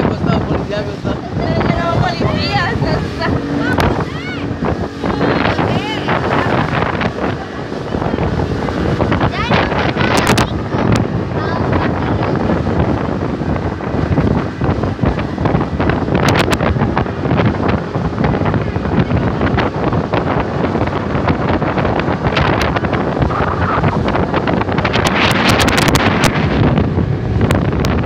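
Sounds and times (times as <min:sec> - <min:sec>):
water rushing past hull: 0:00.0 - 0:28.0
wind buffeting microphone: 0:00.0 - 0:28.0.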